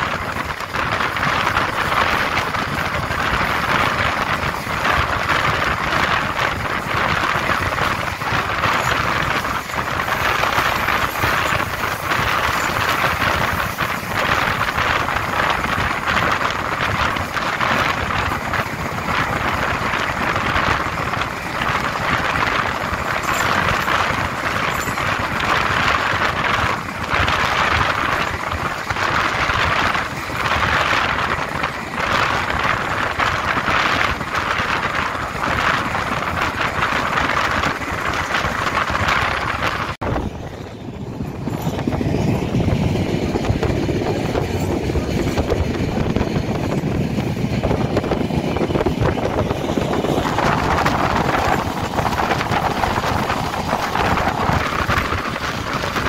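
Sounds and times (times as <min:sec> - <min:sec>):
train wheels rushing on rails: 0:00.0 - 0:56.0
wind noise on microphone: 0:00.0 - 0:56.0.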